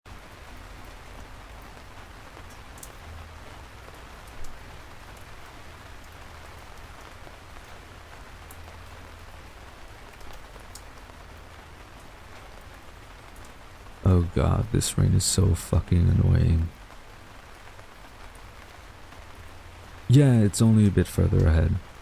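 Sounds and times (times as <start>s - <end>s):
rain falling: 0.1s - 22.0s.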